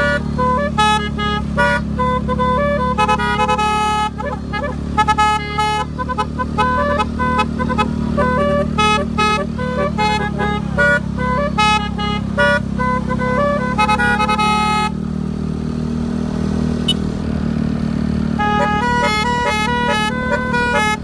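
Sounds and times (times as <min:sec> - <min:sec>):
multi-trumpet horn playing a tune: 0:00.0 - 0:15.0, 0:18.4 - 0:21.0
low engine hum: 0:00.0 - 0:21.0.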